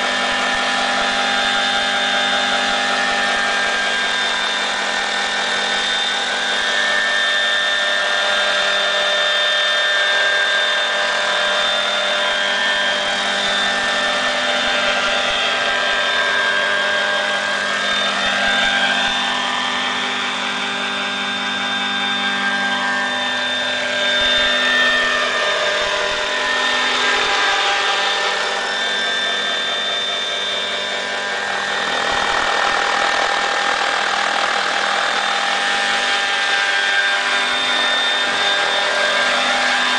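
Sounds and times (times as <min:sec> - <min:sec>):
model helicopter whining: 0:00.0 - 0:39.9.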